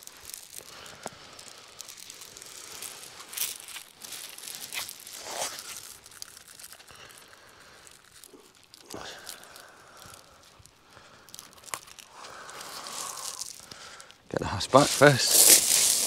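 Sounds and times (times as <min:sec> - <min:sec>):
pebbles crunching and clattering: 0:00.0 - 0:16.0.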